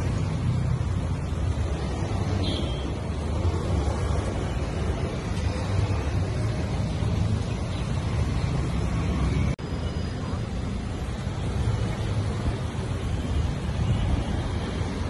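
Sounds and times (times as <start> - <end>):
motorcycles and cars passing: 0.0 - 15.0.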